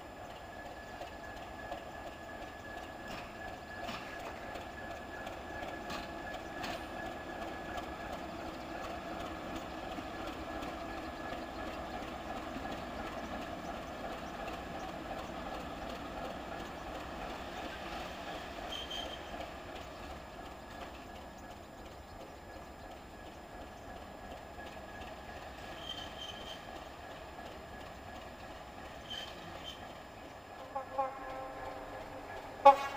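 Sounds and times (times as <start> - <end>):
diesel locomotive engine running: 0.0 - 32.9.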